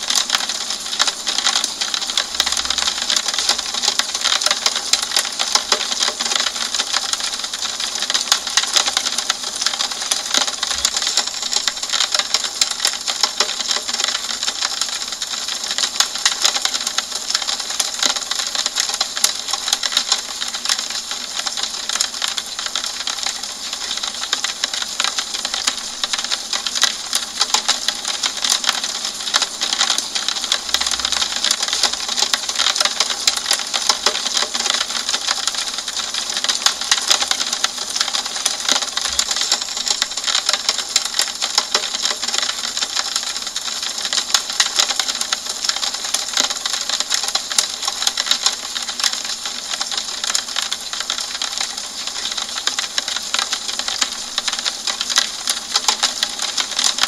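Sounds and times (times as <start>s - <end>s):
rain on a window pane: 0.0s - 57.0s.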